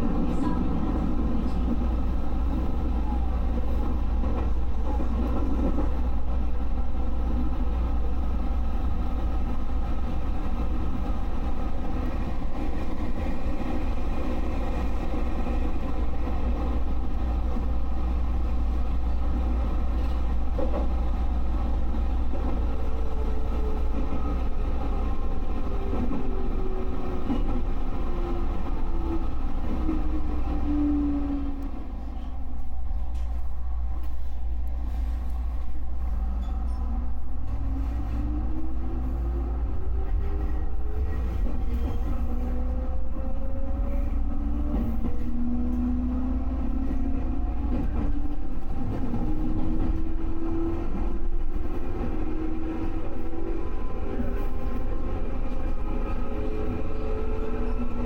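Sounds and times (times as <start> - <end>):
electric train rumble and hum: 0.0 - 58.0.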